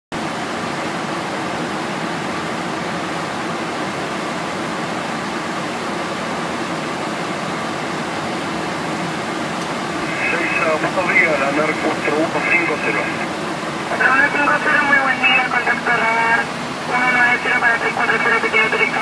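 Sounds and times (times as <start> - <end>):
aircraft cabin engine drone: 0.2 - 19.0.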